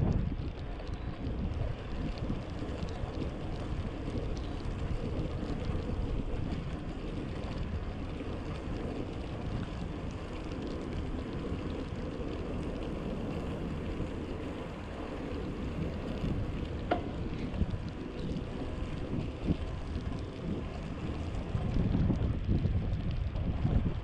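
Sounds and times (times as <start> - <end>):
faint ticks: 0.0 - 24.0
wind buffeting microphone: 0.0 - 24.0.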